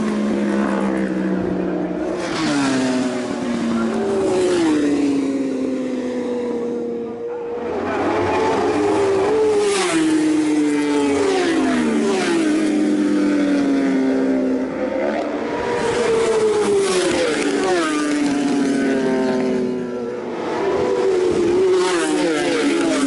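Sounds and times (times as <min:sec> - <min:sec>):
superbikes passing at high revs: 0:00.0 - 0:23.0.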